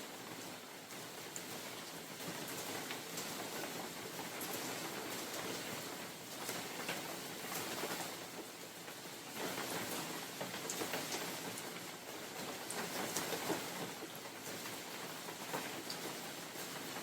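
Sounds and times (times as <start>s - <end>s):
rain falling: 0.0s - 17.0s
raindrops ticking on leaves: 0.0s - 17.0s
wind: 0.0s - 17.0s.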